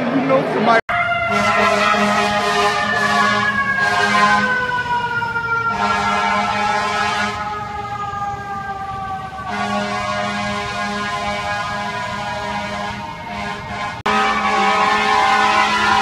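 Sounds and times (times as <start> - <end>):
fire engine siren wailing: 0.0 - 16.0.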